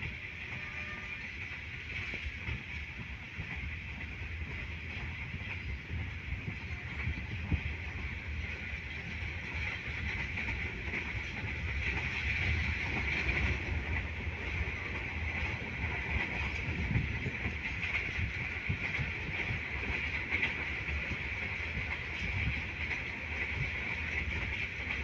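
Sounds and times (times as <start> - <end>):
rail joint clicks: 0.0 - 25.0
train wheels rumbling on rail: 0.0 - 25.0.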